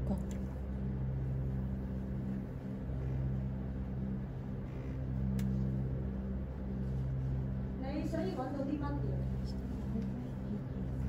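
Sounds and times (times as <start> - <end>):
low ambient drone: 0.0 - 11.0.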